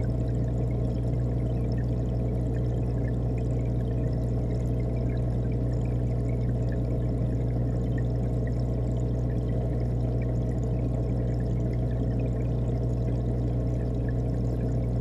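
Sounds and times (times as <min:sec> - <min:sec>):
aquarium pump hum: 0:00.0 - 0:15.0.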